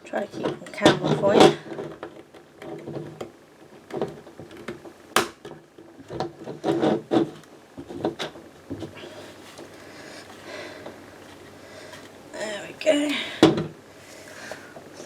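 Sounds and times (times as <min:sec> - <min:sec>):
plastic bricks rubbing: 0:00.1 - 0:12.2.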